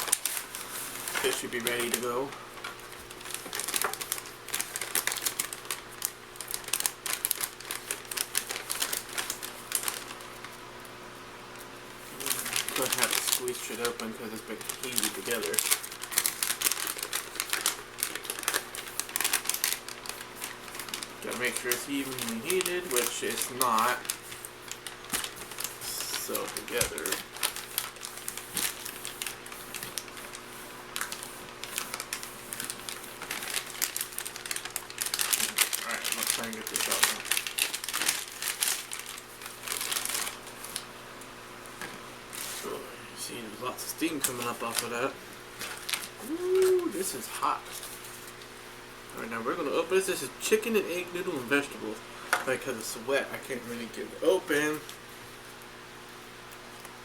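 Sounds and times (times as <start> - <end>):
plastic packaging crinkling: 0.0 - 10.6, 12.0 - 41.0, 41.7 - 42.8, 43.6 - 48.6
faint steady hum: 0.0 - 57.0.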